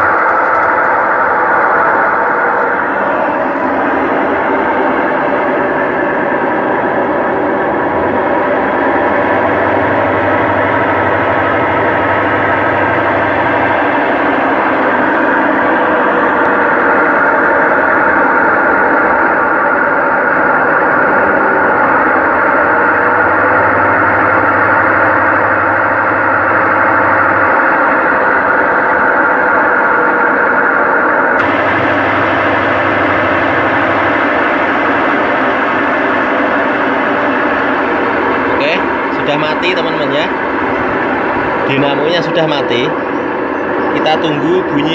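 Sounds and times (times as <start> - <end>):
washing machine spinning: 0.0 - 44.9.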